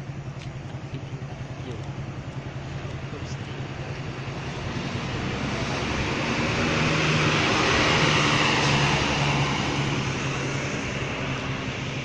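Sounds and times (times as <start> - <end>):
bus driving past: 0.0 - 12.0.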